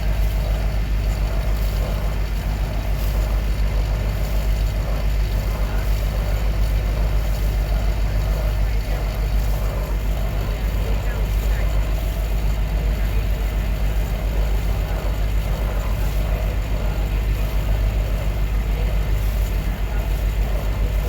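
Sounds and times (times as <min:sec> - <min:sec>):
ferry engine drone: 0:00.0 - 0:21.0.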